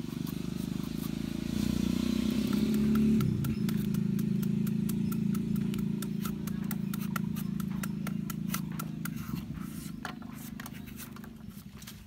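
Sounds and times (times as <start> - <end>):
cleaver hacking fruit: 0.0 - 11.4
shredder scraping fruit: 0.0 - 11.5
steady low hum: 0.0 - 12.0.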